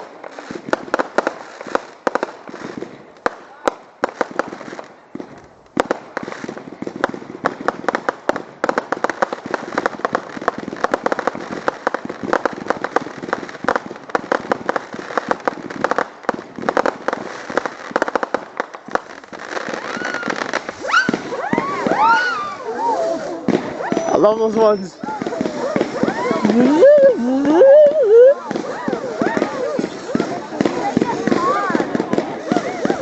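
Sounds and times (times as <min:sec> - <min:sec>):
fireworks crackling and popping: 0:00.0 - 0:33.0.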